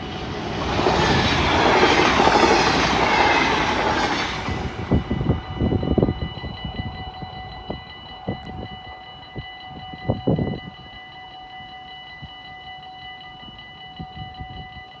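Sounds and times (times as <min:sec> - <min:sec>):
level-crossing warning bell: 0:00.0 - 0:15.0.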